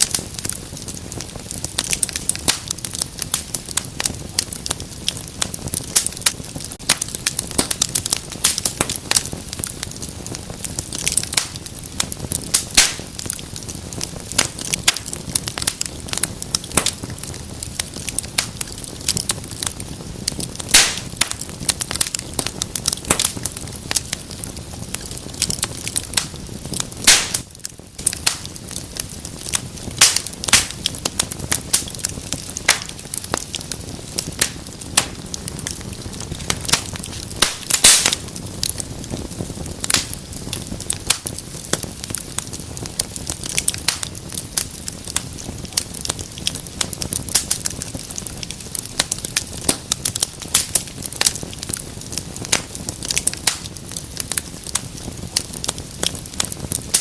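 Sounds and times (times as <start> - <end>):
fire hissing: 0.0 - 57.0
loud fire pops: 0.0 - 57.0
wood fire crackling: 0.0 - 57.0.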